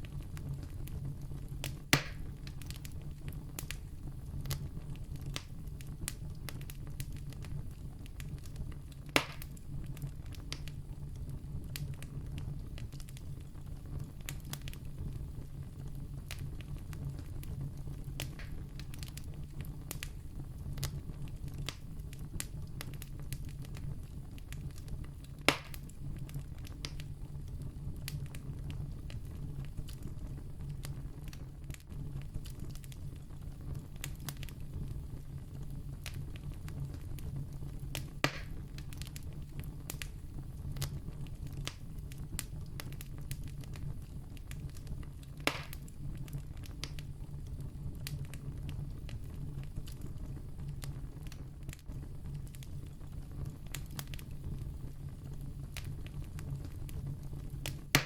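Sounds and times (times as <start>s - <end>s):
campfire burning and crackling: 0.0s - 58.0s
sharp fire pops: 0.0s - 58.0s.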